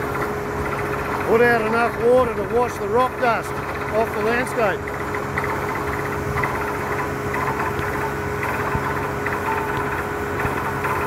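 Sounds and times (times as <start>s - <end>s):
drilling rig drone: 0.0s - 11.0s
thin steady whine: 0.0s - 11.0s.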